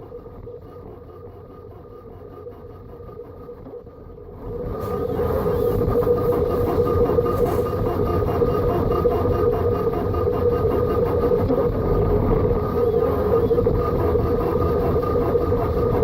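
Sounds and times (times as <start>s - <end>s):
printer motors and fans humming: 0.0s - 16.0s.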